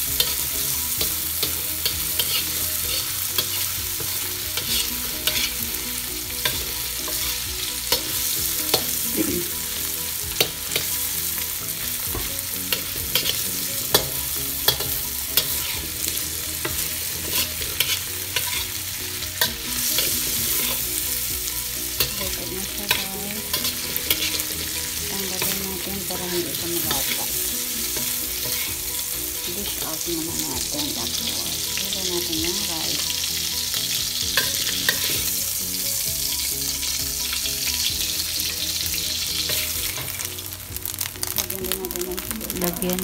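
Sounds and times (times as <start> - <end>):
food sizzling in oil: 0.0 - 43.0
metal spatula scraping a wok: 0.1 - 29.9, 33.0 - 40.3.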